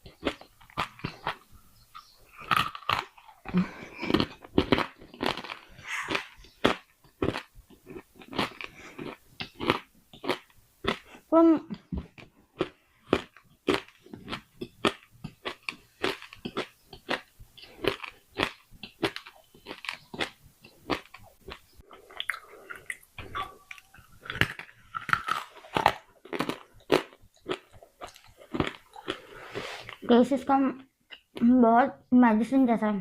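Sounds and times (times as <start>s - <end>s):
crunching and chewing: 0.0s - 11.2s, 11.8s - 30.1s.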